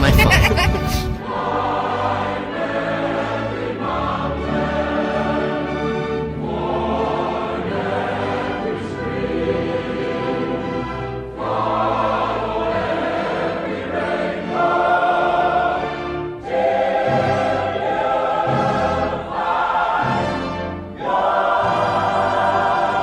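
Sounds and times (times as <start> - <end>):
choir holding sustained chords: 0.0 - 23.0.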